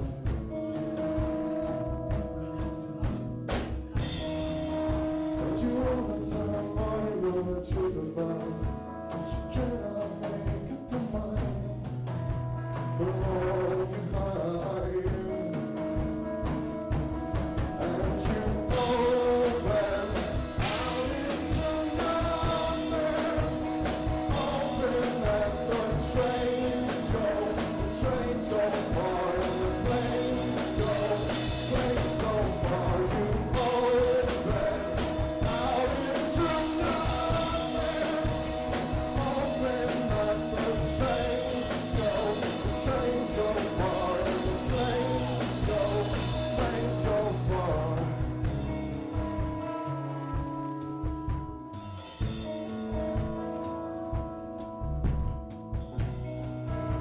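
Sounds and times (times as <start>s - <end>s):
person singing: 0.0s - 16.1s, 17.6s - 48.6s
live rock band playing: 0.0s - 57.0s.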